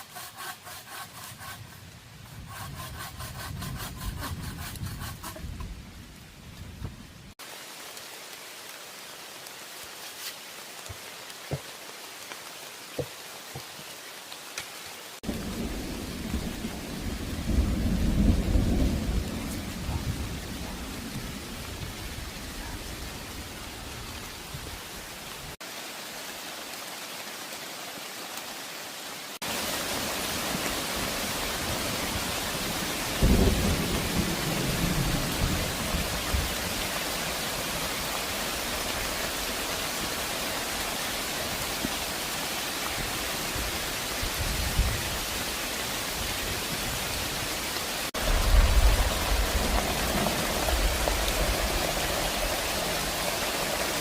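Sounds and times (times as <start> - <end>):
heavy rain: 1.5 - 54.0.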